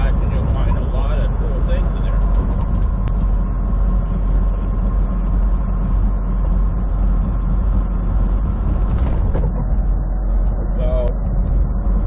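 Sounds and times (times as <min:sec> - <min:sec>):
diesel truck engine running: 0:00.0 - 0:12.0
road noise: 0:00.0 - 0:12.0.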